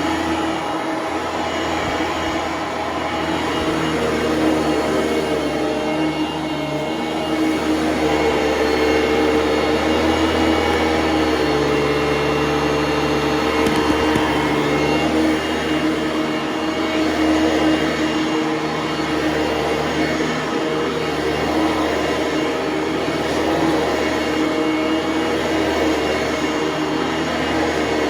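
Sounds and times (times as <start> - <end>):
vacuum cleaner motor hum: 0.0 - 28.0.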